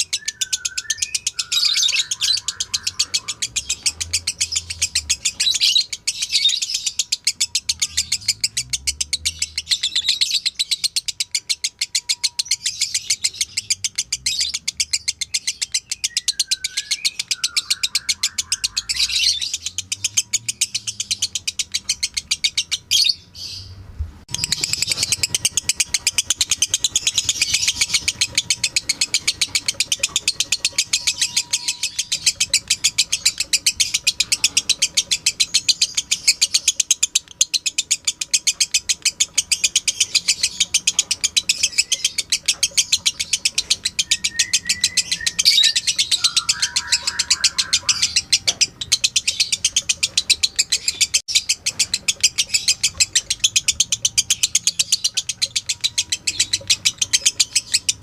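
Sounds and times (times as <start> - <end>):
lovebird shrill chatter: 0.0 - 23.2, 24.3 - 58.0
lower bird chirps: 0.0 - 58.0.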